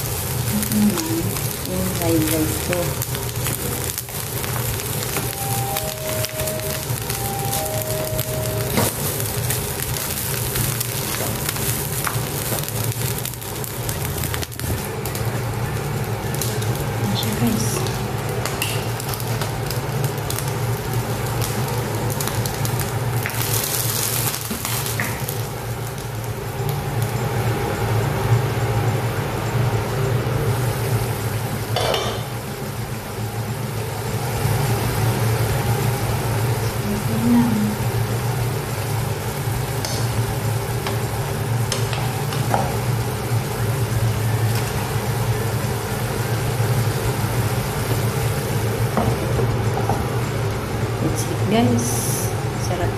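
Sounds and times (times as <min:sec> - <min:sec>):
food sizzling in a frying pan: 0:00.0 - 0:52.9.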